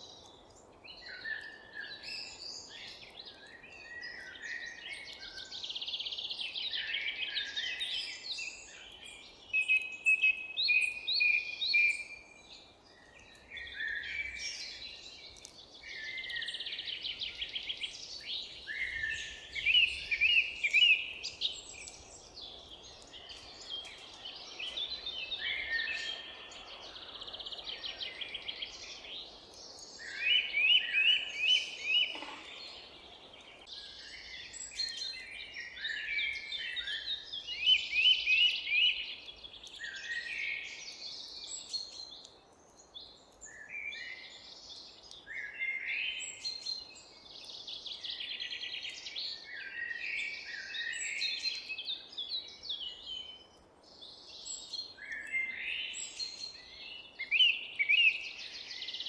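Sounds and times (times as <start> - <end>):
faint outdoor hiss: 0.0 - 59.0
songbirds singing and calling: 0.0 - 59.0.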